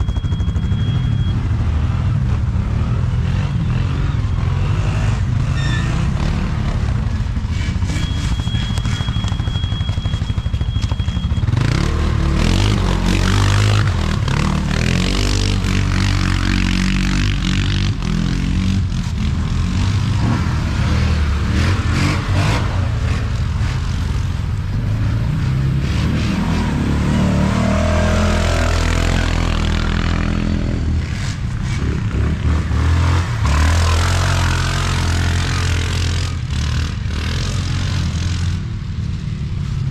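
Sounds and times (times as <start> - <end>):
atv engine revving: 0.3 - 38.9.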